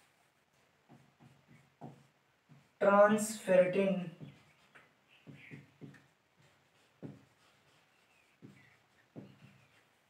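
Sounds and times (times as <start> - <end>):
marker writing on whiteboard: 0.0 - 10.0.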